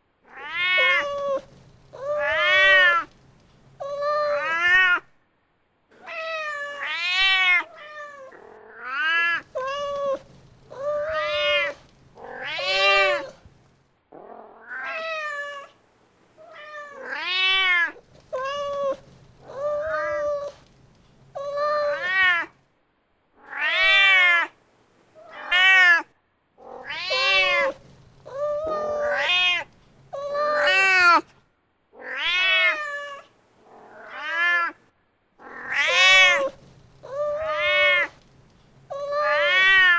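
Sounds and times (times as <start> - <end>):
cat meowing: 0.3 - 3.2, 3.8 - 5.1, 6.0 - 13.5, 14.5 - 15.8, 16.4 - 20.7, 21.3 - 22.6, 23.4 - 24.6, 25.2 - 31.3, 32.0 - 34.8, 35.4 - 39.9.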